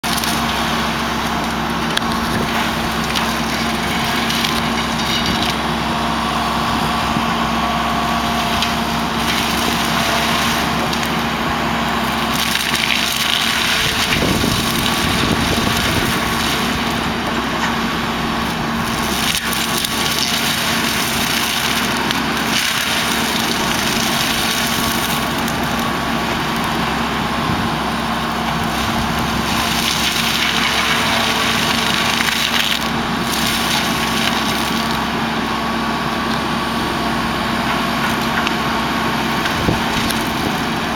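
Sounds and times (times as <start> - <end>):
diesel excavator engine: 0.0 - 40.9
mulcher rotor shredding wood: 0.0 - 40.9.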